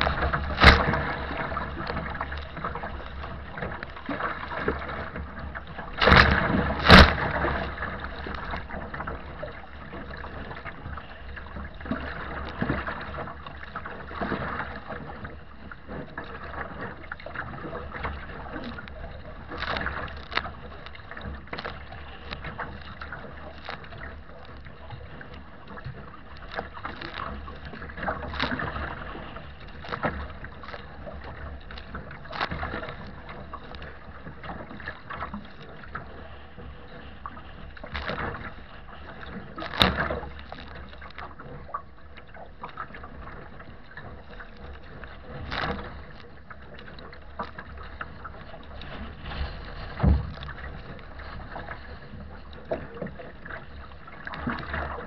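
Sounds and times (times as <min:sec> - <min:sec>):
waves splashing against kayak: 0:00.0 - 0:55.0.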